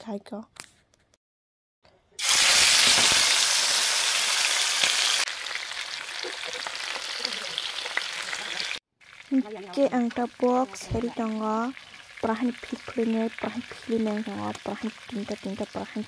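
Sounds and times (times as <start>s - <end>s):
chicken sizzling in hot oil: 2.2s - 16.0s.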